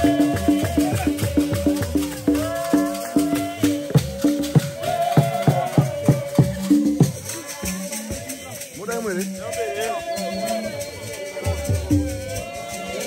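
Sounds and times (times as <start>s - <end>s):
shaken rattles: 0.0s - 13.0s
voices singing together: 0.0s - 13.0s.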